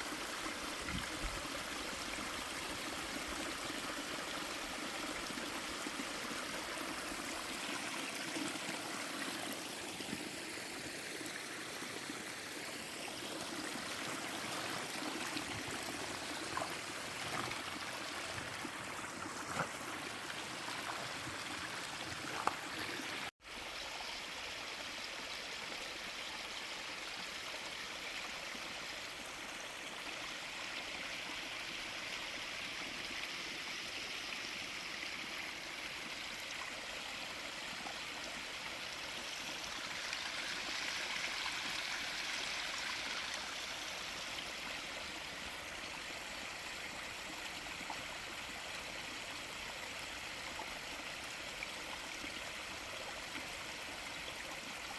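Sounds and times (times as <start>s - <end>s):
stream water running: 0.0s - 54.9s.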